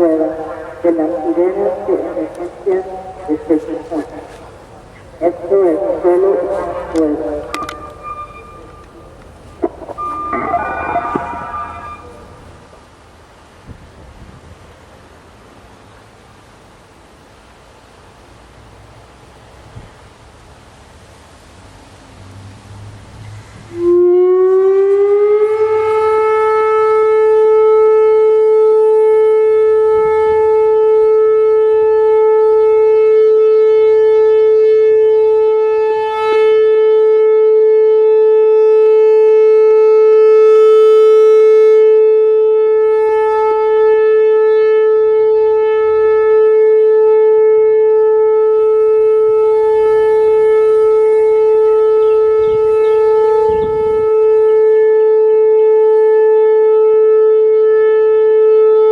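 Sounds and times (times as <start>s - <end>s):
electronic warning siren: 0.0s - 12.8s, 23.7s - 58.9s.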